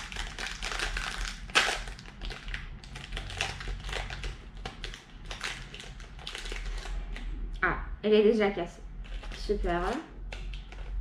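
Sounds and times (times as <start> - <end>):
plastic wrapper crinkling: 0.0 - 7.3, 9.0 - 11.0.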